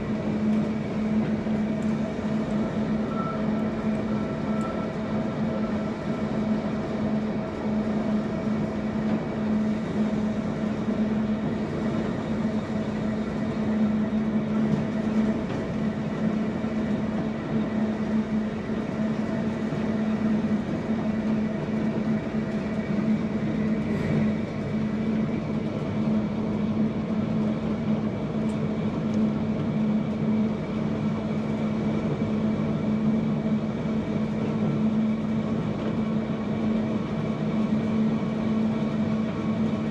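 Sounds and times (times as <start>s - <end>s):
electric tram hum: 0.0s - 39.9s
wheels running on rail: 0.0s - 39.9s.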